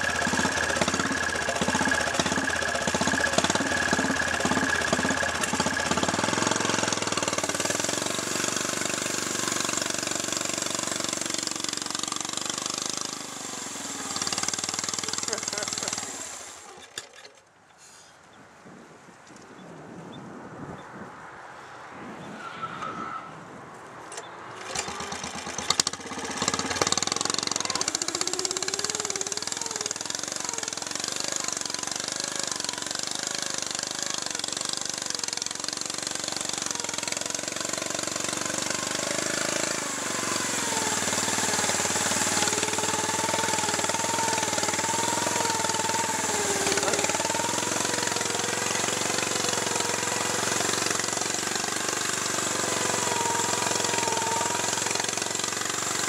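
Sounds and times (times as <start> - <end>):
lawn tractor engine starting: 0.0 - 17.5, 24.1 - 56.0.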